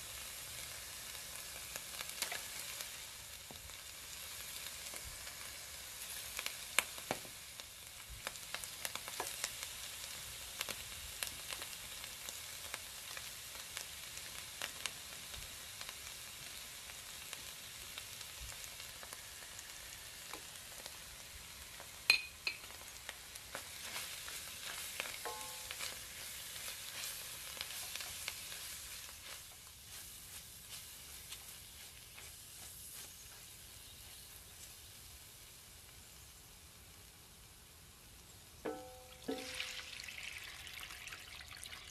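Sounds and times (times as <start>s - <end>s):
sauce sizzling in oil: 0.0s - 41.9s.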